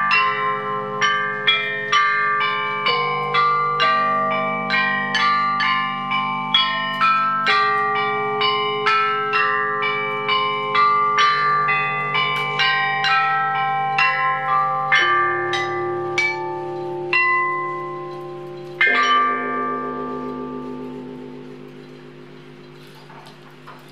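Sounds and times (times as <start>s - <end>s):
bronze chime bells ringing: 0.0s - 23.9s.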